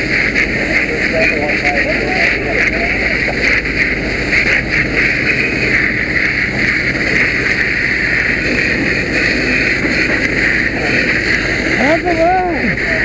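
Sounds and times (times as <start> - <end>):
fire hose water stream hissing: 0.0 - 13.0
low steady rumble: 0.0 - 13.0.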